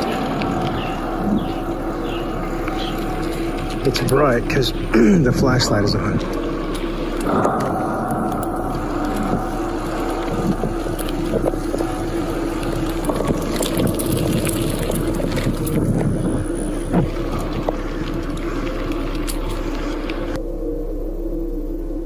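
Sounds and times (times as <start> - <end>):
bike tyres rolling on pavement: 0.0 - 20.4
wind buffeting microphone: 0.0 - 20.4.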